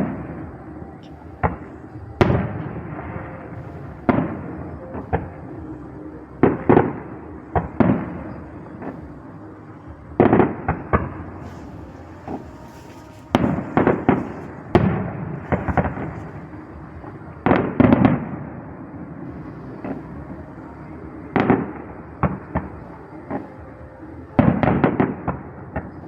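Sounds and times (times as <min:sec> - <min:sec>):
fireworks bangs with rumbling echo: 0:01.4 - 0:05.7, 0:06.4 - 0:09.3, 0:09.9 - 0:23.8.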